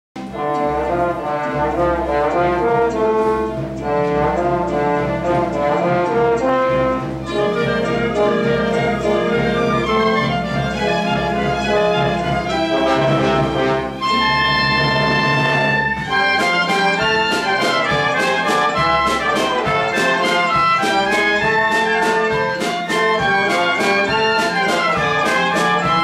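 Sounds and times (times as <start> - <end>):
orchestral dance music with brass: 0.2 - 26.0.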